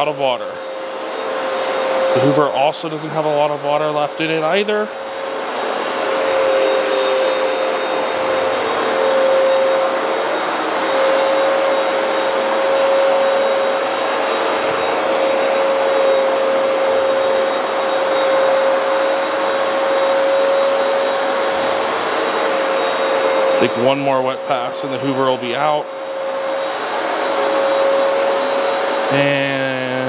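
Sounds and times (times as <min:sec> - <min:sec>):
carpet cleaner motor whine: 0:00.0 - 0:30.0.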